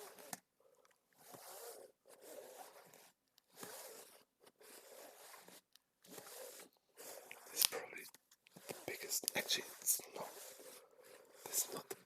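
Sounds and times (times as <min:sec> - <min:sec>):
book sliding against cover: 0:00.0 - 0:00.5, 0:01.2 - 0:07.8, 0:08.5 - 0:12.0.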